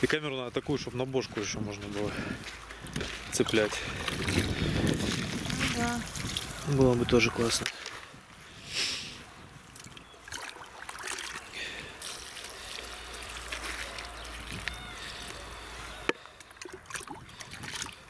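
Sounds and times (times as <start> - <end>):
water trickling and splashing: 0.0 - 8.2, 9.2 - 18.0.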